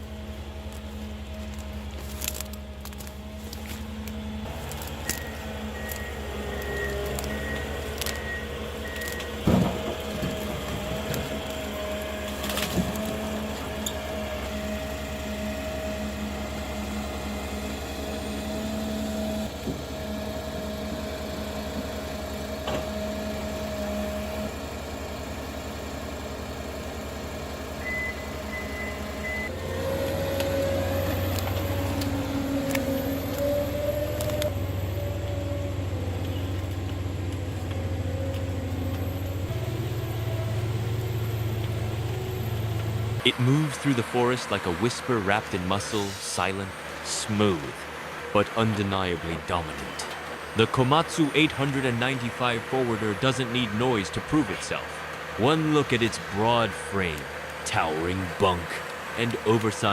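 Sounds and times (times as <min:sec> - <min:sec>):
heavy diesel machine running: 0:00.0 - 0:59.9.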